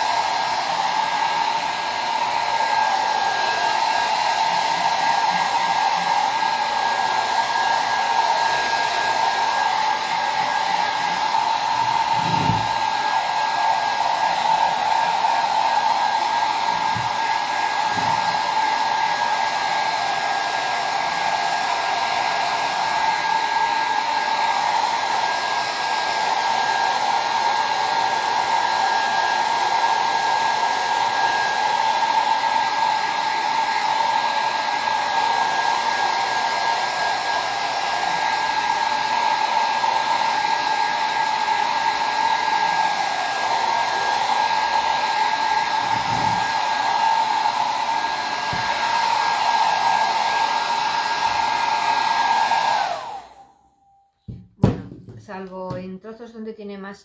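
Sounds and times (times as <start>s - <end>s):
hair dryer running: 0.0s - 55.9s.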